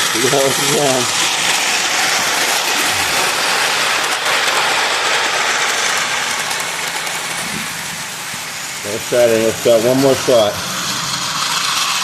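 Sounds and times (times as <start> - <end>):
toy train whirring and rattling: 0.0 - 12.0.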